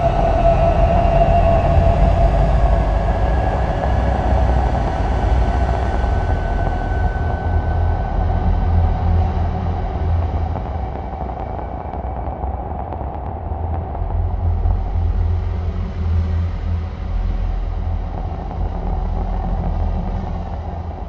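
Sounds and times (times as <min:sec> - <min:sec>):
dark ambient drone: 0:00.0 - 0:21.0.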